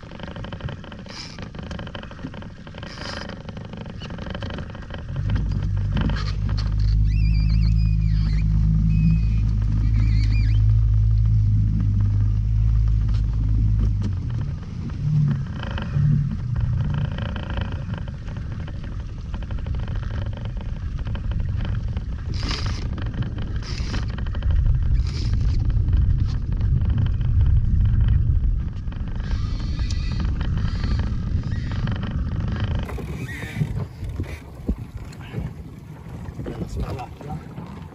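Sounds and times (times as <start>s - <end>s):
boat engine idling: 0.0s - 37.9s
wind and water rumble: 0.0s - 37.9s.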